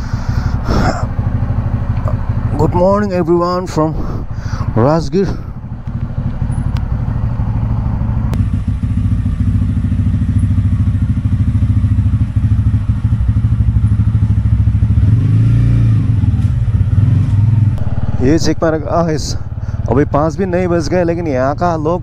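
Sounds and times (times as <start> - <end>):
motorcycle engine idling: 0.0 - 15.1, 16.1 - 22.0.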